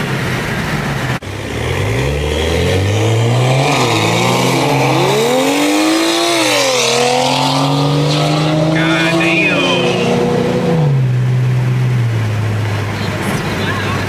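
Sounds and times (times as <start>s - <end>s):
car engine accelerating hard: 1.0s - 14.0s.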